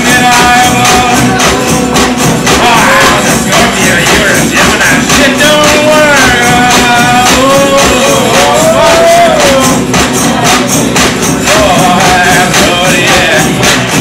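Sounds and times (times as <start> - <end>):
acoustic guitar: 0.0 - 14.0
hand percussion beat: 0.0 - 14.0.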